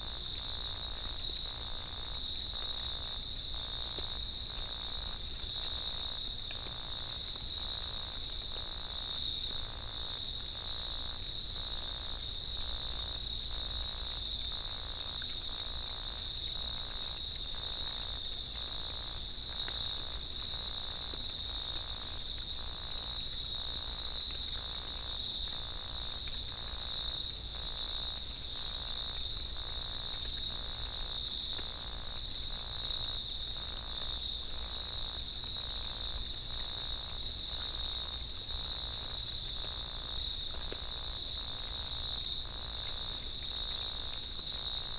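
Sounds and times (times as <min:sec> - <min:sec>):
crickets trilling: 0:00.0 - 0:44.9.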